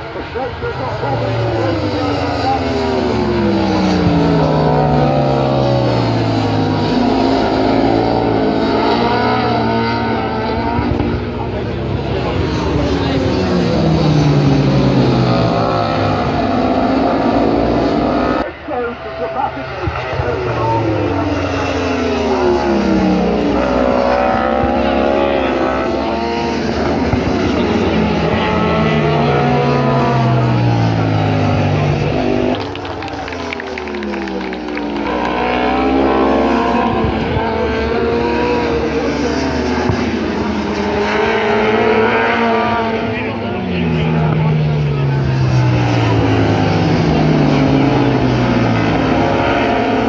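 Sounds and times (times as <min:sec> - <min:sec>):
motorbikes racing past: 0:00.0 - 0:50.0
superbike engines passing at speed: 0:00.4 - 0:18.5, 0:20.7 - 0:50.0.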